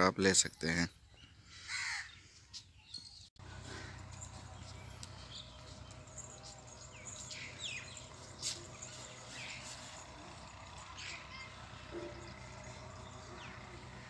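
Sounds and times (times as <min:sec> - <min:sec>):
bird chirps: 0:00.4 - 0:14.0.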